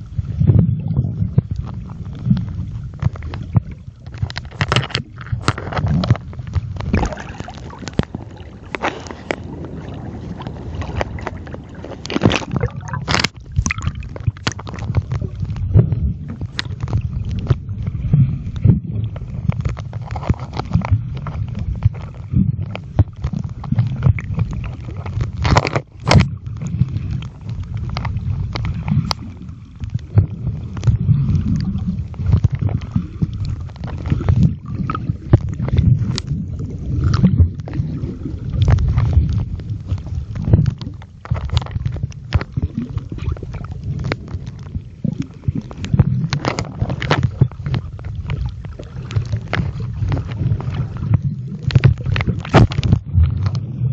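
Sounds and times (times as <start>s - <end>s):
underwater rumble: 0.0s - 53.9s.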